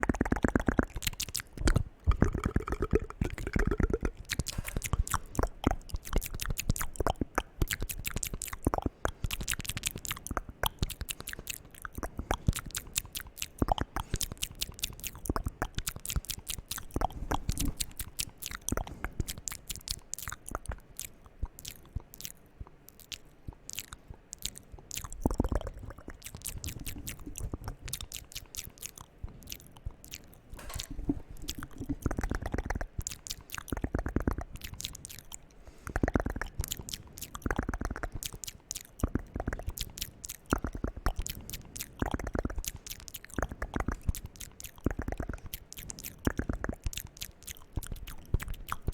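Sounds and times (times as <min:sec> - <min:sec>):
wet mouth clicks and lip smacks: 0:00.0 - 0:48.9.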